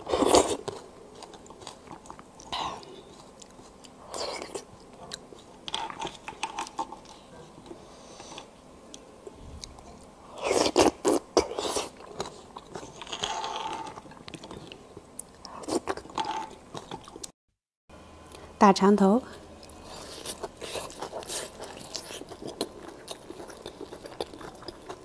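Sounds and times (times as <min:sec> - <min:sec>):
biting and chewing: 0:00.0 - 0:08.5, 0:09.6 - 0:17.4, 0:19.6 - 0:25.0.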